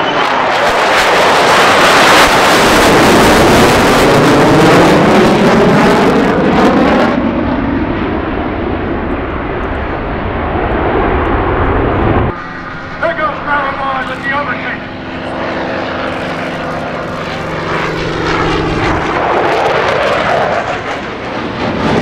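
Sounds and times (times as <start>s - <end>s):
jet aircraft passing overhead: 0.0s - 22.0s.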